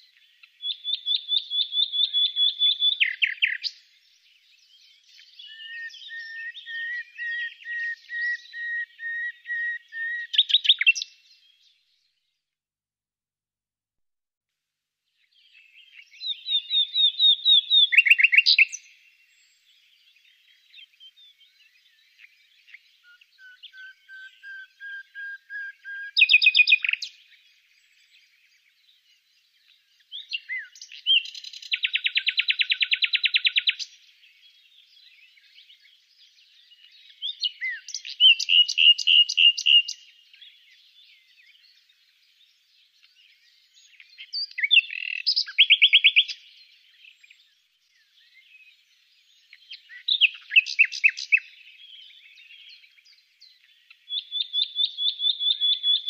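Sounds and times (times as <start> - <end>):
nightingale singing: 0.0 - 11.9, 15.2 - 56.0.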